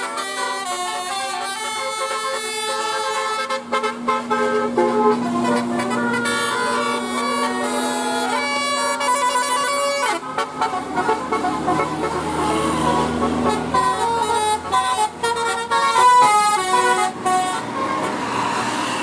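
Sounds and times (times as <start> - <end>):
multi-tone air horn melody: 0.0 - 19.0.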